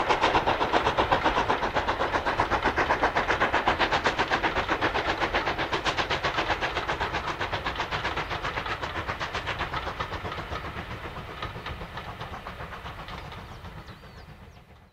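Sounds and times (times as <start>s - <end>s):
steam locomotive exhaust beats: 0.0s - 14.9s.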